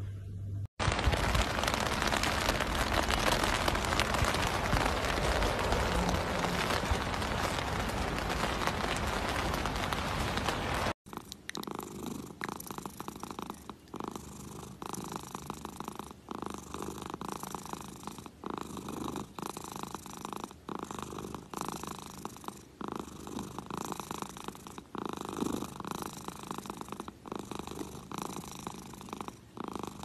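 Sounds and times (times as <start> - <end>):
cat purring: 0.8 - 30.0.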